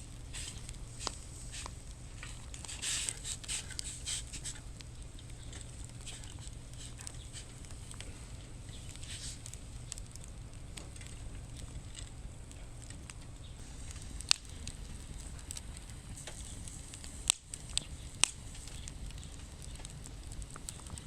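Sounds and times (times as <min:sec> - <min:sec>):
sharp pops of fire: 0:00.0 - 0:21.0
steady low rumble: 0:00.0 - 0:21.0
wood fire crackling: 0:00.0 - 0:21.0.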